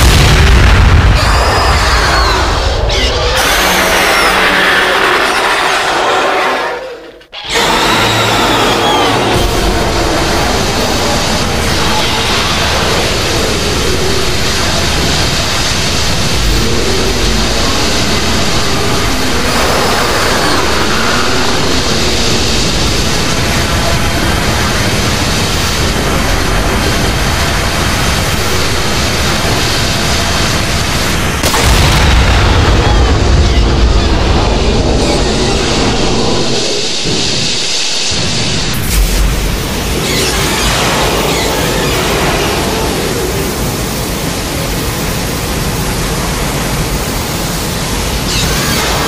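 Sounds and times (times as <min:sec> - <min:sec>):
loud rushing noise: 0:00.0 - 0:49.0.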